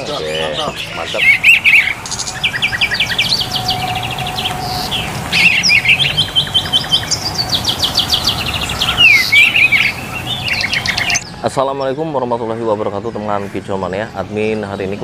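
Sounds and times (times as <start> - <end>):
songbirds chirping and trilling: 0.0 - 15.0
steady background hiss: 0.0 - 15.0.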